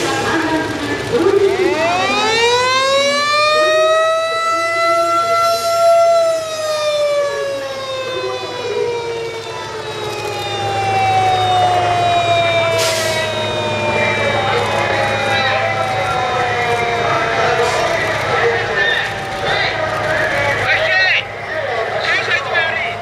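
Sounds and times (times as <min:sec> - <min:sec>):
fire truck siren wailing: 0:00.0 - 0:23.0.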